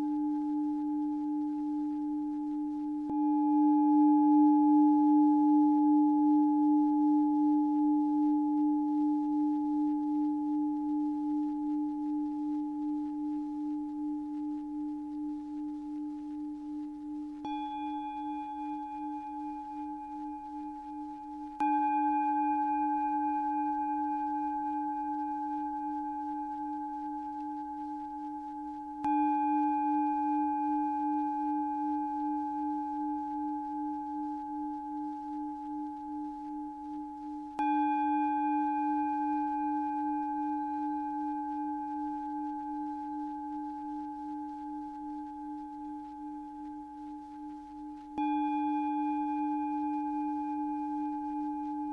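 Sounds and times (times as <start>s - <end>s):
singing bowl ringing: 0.0s - 51.9s.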